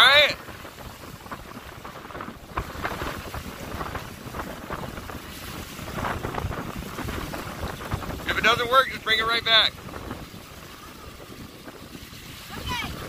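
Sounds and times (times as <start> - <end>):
small waves splashing on rocky shore: 0.0 - 13.0
wind buffeting the microphone: 0.0 - 13.0.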